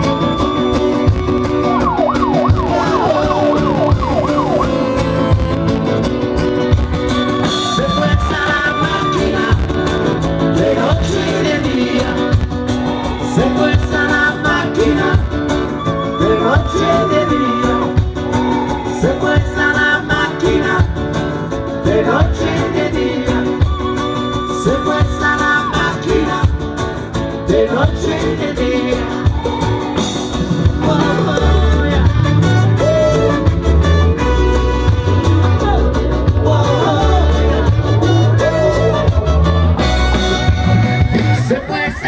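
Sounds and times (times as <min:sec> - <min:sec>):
live band playing instrumental: 0:00.0 - 0:42.0.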